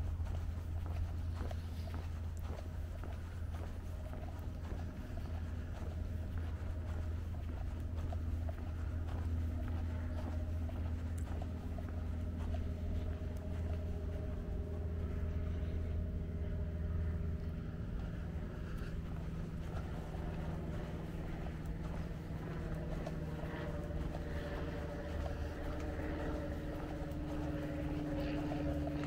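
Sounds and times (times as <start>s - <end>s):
faint humming tones: 0.0s - 29.0s
low engine drone: 0.0s - 29.0s.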